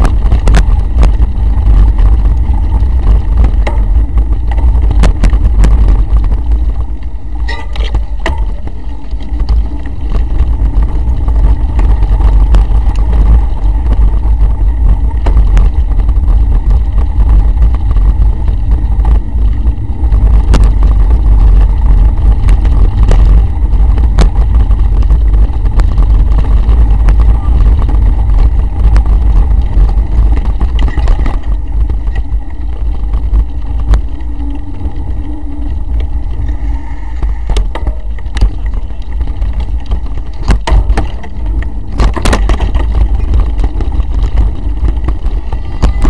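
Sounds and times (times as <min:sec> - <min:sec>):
bike knocks and rattles: 0:00.0 - 0:46.0
wind buffeting microphone: 0:00.0 - 0:46.0.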